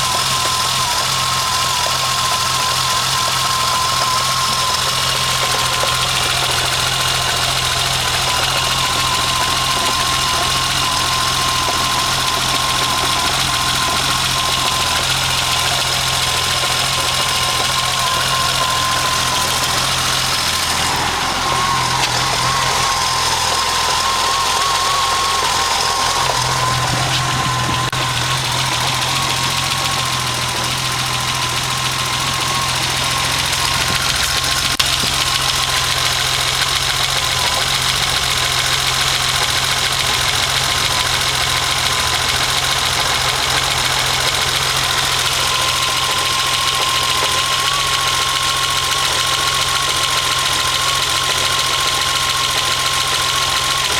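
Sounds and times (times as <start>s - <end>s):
car engine idling with misfire: 0.0s - 53.9s.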